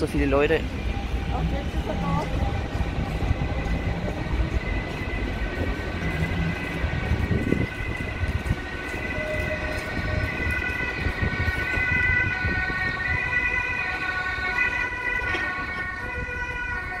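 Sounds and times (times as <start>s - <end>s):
tram high-pitched tones: 0.0s - 17.0s
tram rumbling running noise: 0.0s - 17.0s.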